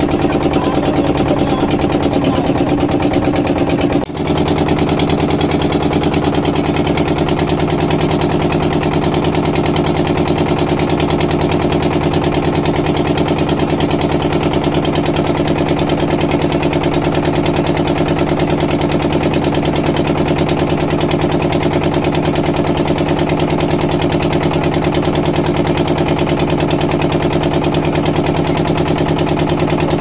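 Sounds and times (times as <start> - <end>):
boat engine pulsing: 0.0 - 30.0.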